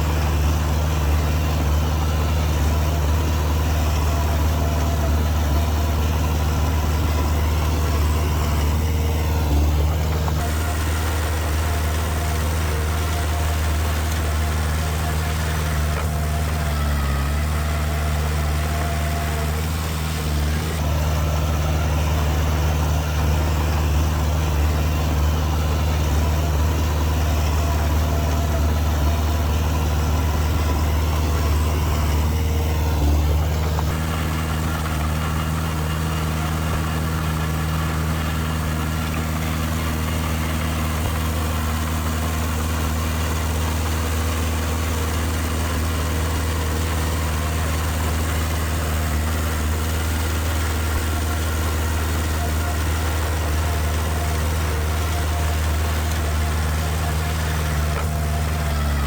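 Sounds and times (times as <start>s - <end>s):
diesel engine of heavy machinery: 0.0s - 59.0s.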